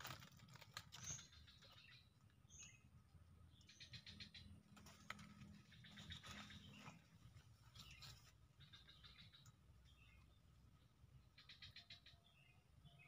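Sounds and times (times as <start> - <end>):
faint bird chirps: 0.5 - 13.0.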